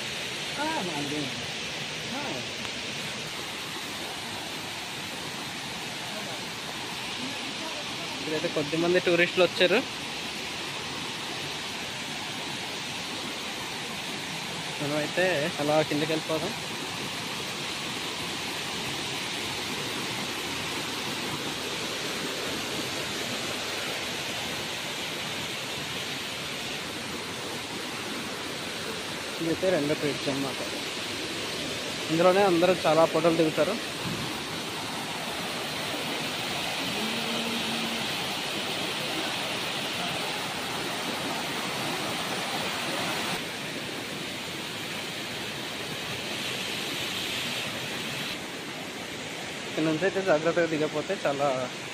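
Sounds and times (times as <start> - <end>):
stream running over rocks: 0.0 - 51.9
waterfall rushing: 0.0 - 51.9.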